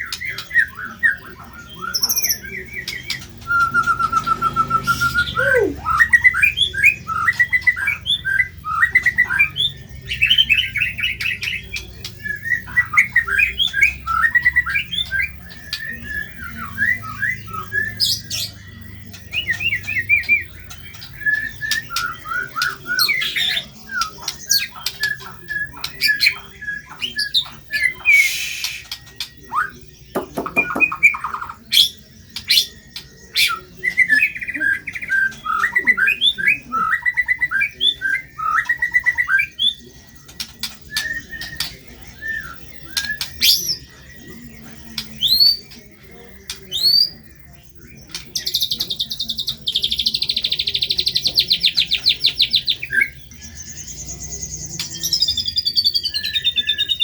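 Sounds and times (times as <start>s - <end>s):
songbird singing varied song: 0.0s - 57.0s.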